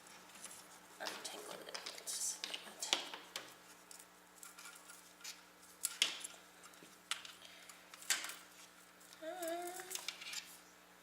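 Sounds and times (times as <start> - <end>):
cables clicking and rustling: 0.1 - 10.6.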